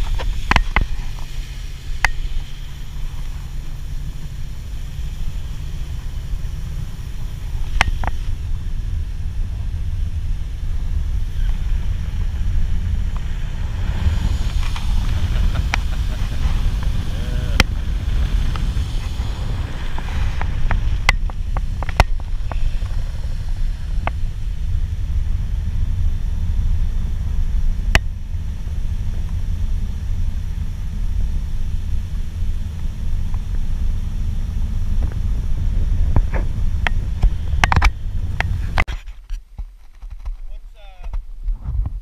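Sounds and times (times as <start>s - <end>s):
outboard motor rumble: 0.0s - 38.9s
wind on microphone: 0.0s - 39.2s, 41.2s - 42.0s.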